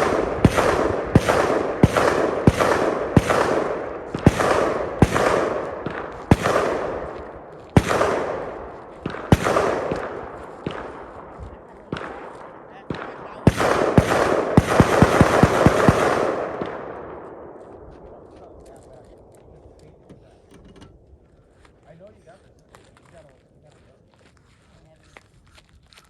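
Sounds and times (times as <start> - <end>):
rifle shots with echo: 0.0 - 21.2.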